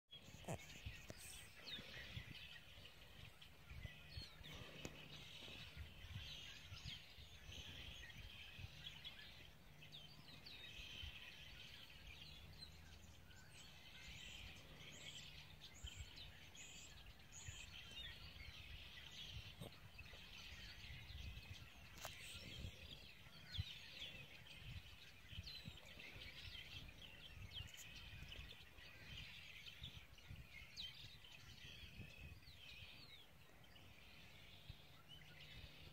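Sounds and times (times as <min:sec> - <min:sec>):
birds chirping and calling: 0:00.1 - 0:35.9.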